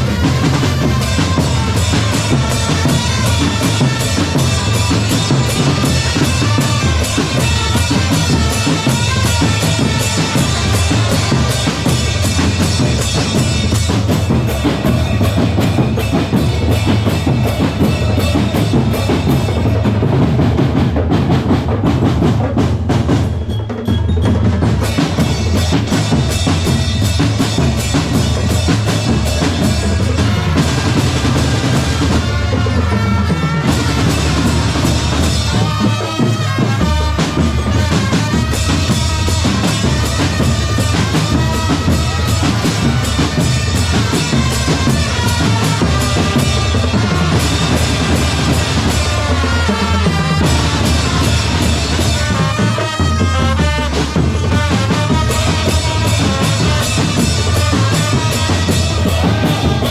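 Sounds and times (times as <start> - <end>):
bass drums and snare drums: 0.0 - 59.9.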